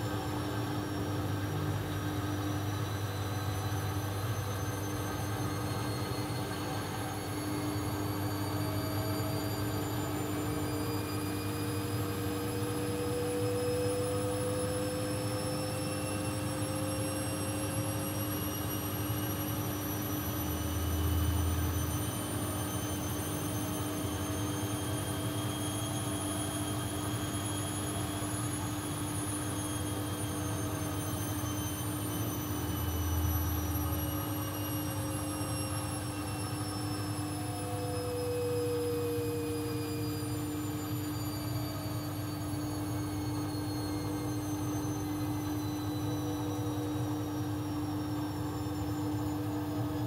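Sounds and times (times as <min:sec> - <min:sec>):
electric motor whine: 0:06.0 - 0:49.0.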